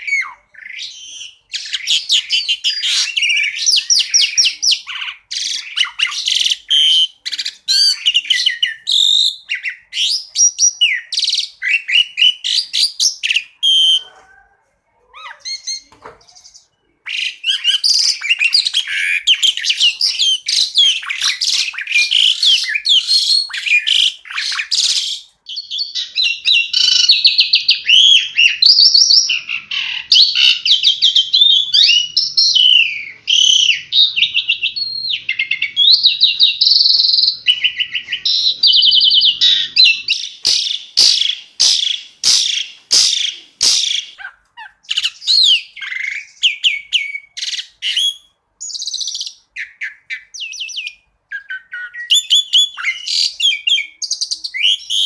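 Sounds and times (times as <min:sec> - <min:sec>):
starling singing: 0:00.0 - 0:55.0.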